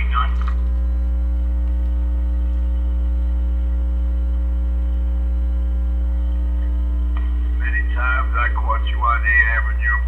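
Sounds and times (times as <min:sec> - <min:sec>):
electrical hum over radio: 0:00.0 - 0:10.0.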